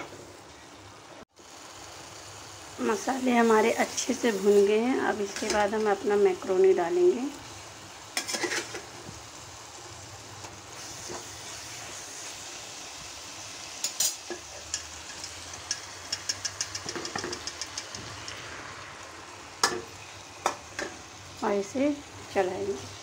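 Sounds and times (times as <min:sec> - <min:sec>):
sauce sizzling in pan: 0:00.0 - 0:23.0.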